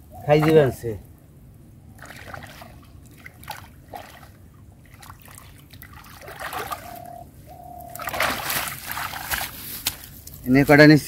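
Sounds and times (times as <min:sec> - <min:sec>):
muddy water splashing: 0:00.1 - 0:10.5.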